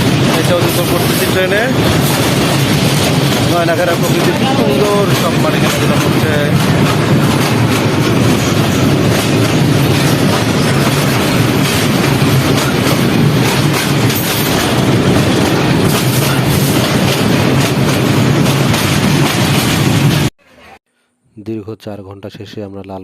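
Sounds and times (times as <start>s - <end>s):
train rumbling on a bridge: 0.0s - 20.3s
wheels clattering over rail joints: 0.0s - 20.3s.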